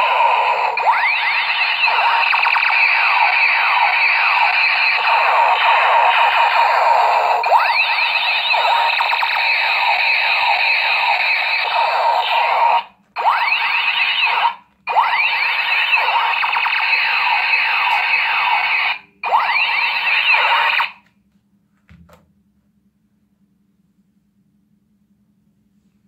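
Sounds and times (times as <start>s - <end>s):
toy gun laser and siren tones: 0.0s - 21.0s.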